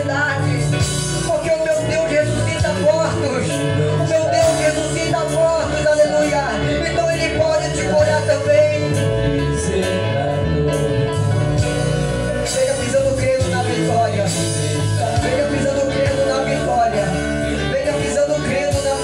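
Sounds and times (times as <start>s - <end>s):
person singing: 0.0s - 19.0s
worship band music: 0.0s - 19.0s.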